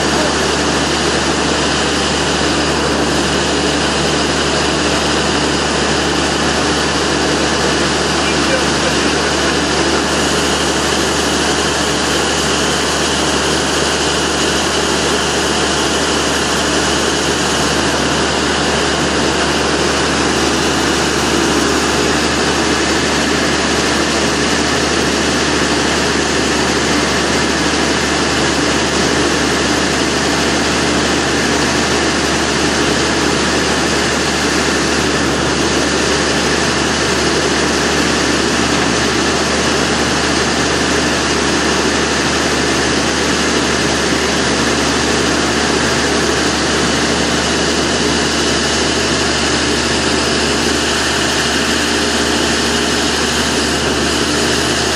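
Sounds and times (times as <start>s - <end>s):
diesel engine drone: 0.0s - 54.9s.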